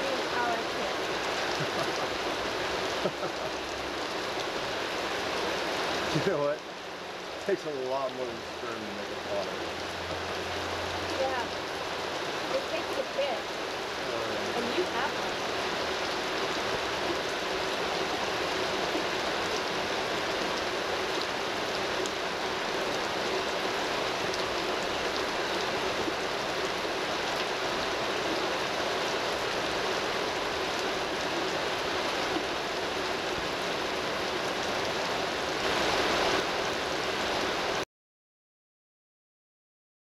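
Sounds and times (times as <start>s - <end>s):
rain hitting an umbrella: 0.0s - 37.8s.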